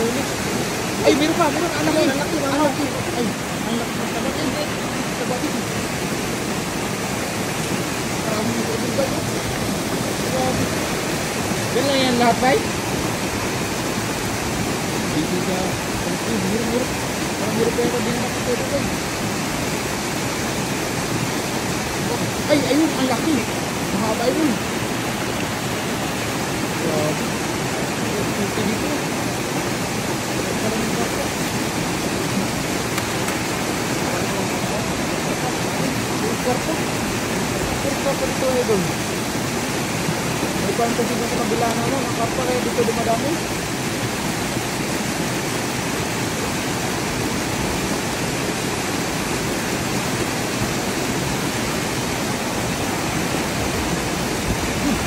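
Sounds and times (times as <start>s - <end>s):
water pouring over cascade: 0.0s - 55.0s.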